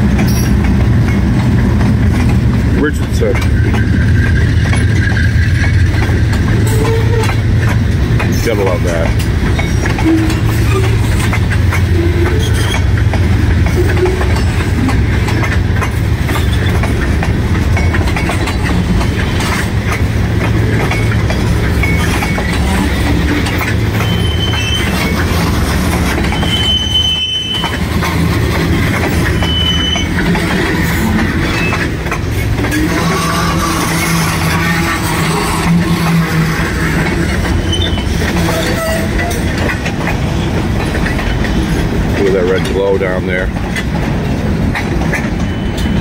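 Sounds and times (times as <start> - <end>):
freight train rumbling past: 0.0 - 46.0
train wheel squeals: 0.2 - 0.7, 2.8 - 17.1, 20.6 - 43.5, 44.8 - 46.0.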